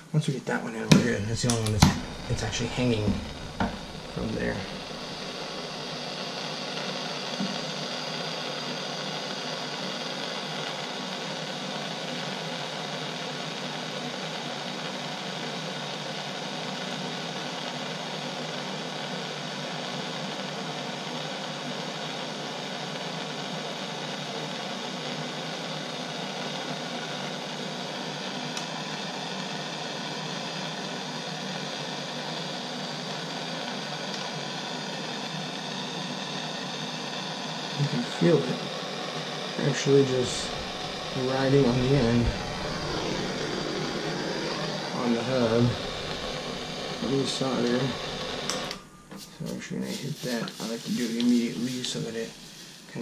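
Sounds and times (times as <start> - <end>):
gas torch hissing: 0.0 - 53.0.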